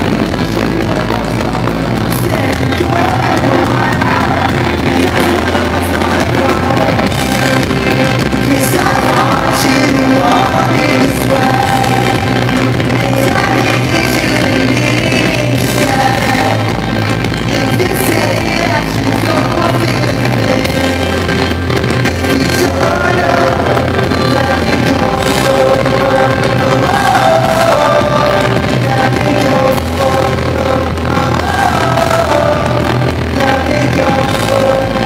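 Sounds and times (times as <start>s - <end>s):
live pop-rock band: 0.0s - 35.0s
man singing: 0.0s - 35.0s.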